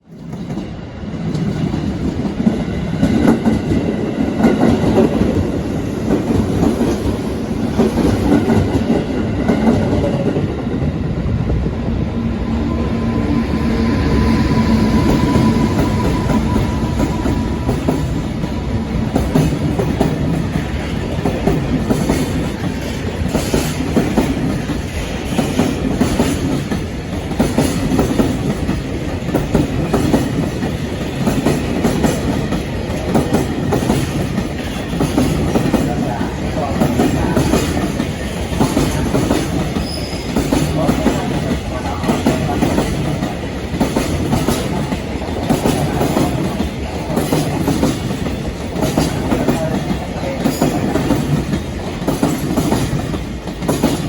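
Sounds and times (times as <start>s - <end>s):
freight train wheels clattering: 0.1s - 11.0s, 12.9s - 54.0s.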